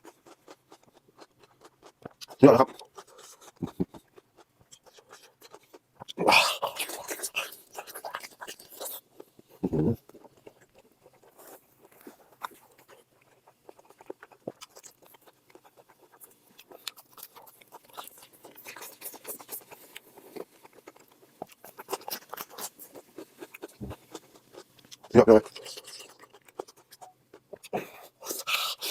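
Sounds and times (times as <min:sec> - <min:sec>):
person chewing: 0:00.0 - 0:28.9.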